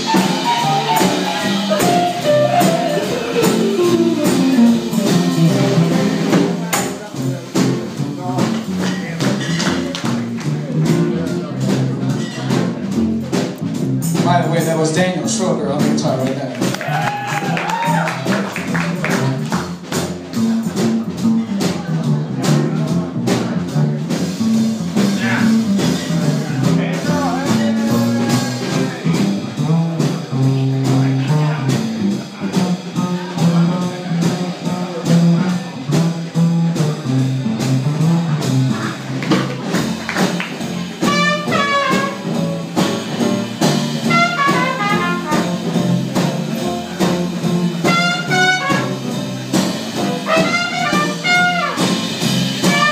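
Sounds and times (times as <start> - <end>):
upright bass walking: 0.0 - 52.9.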